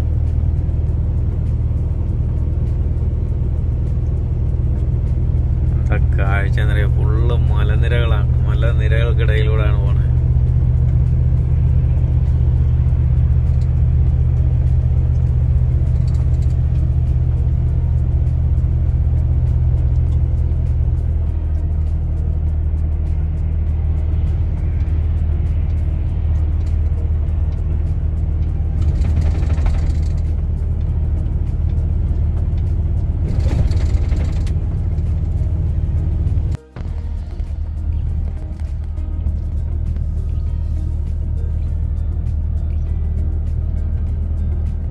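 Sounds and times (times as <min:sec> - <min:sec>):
road noise: 0:00.0 - 0:44.9
truck diesel engine drone: 0:00.0 - 0:44.9.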